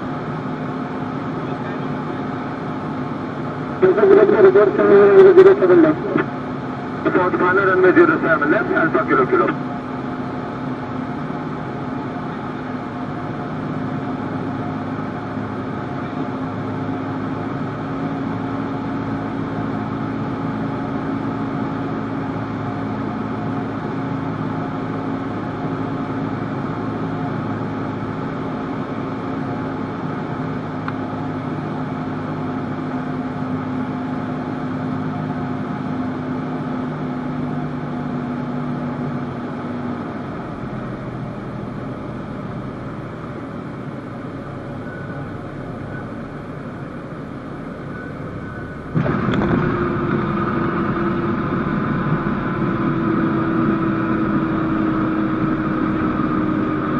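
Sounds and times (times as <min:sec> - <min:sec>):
airplane engine and propeller droning: 0:00.0 - 0:56.9.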